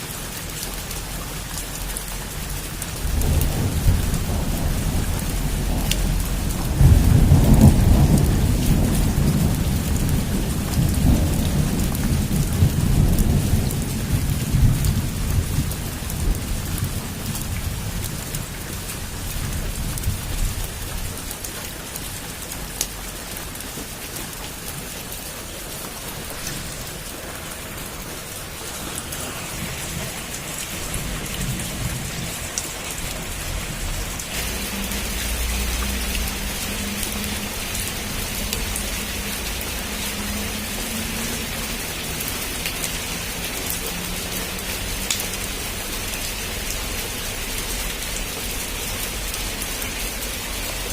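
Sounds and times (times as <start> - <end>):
heavy rain falling: 0.0 - 50.9
thunder rumbling: 2.4 - 21.5, 24.8 - 46.8.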